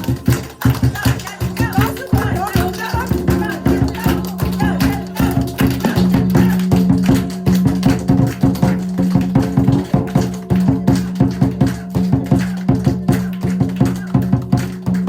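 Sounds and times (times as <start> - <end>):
wood-block strikes: 0.0 - 15.0.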